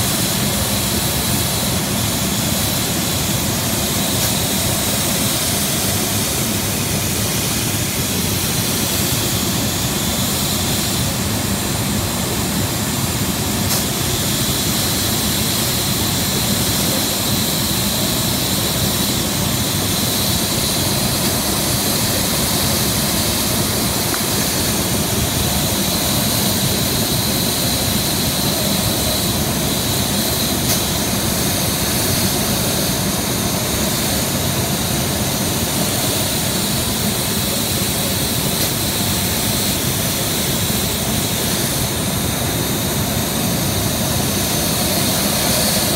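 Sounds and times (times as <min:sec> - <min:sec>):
smoke machine rushing hiss: 0:00.0 - 0:45.9.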